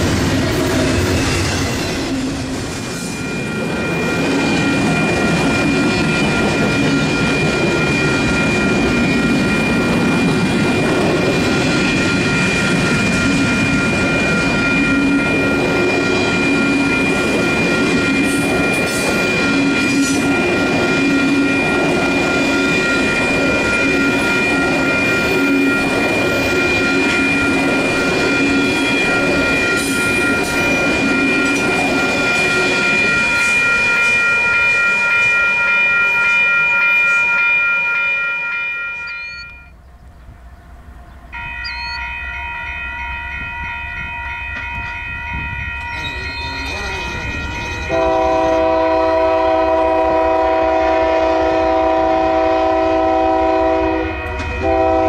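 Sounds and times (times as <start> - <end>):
train wheels rumbling on rails: 0.0 - 38.0, 39.0 - 55.0
high ringing tones: 1.2 - 39.8, 41.3 - 50.0.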